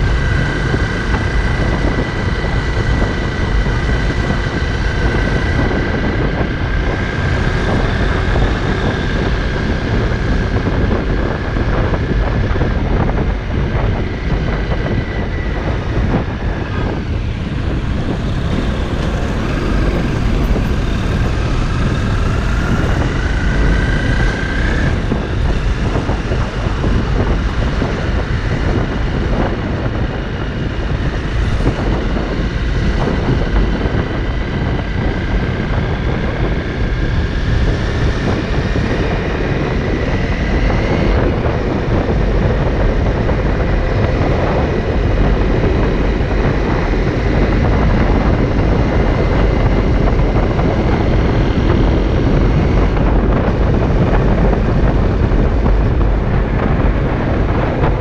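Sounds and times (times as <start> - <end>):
heavy low rush: 0.0 - 58.0
motorcycle engine running: 0.0 - 58.0
rising whine: 0.0 - 58.0.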